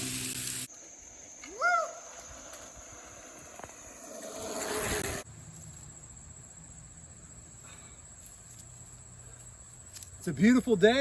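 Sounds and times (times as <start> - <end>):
high insect buzz: 0.0 - 10.2.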